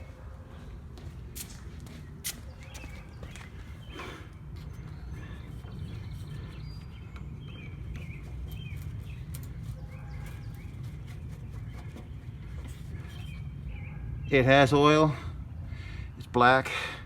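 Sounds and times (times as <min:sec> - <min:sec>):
small birds chirping: 0:00.0 - 0:16.6.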